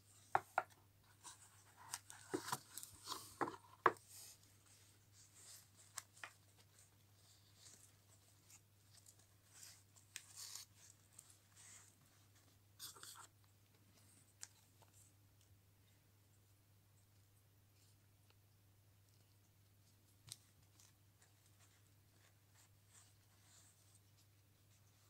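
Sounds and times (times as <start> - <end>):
faint low hum: 4.0 - 25.0.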